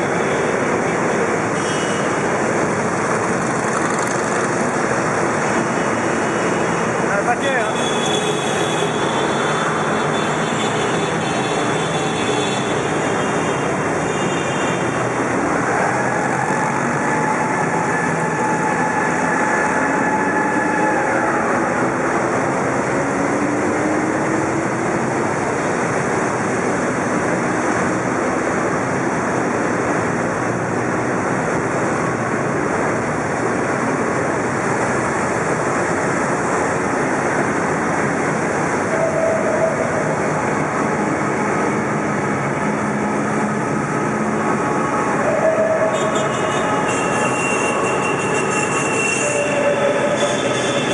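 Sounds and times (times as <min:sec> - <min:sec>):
motorcycle engines in a tunnel: 0:00.0 - 0:50.9.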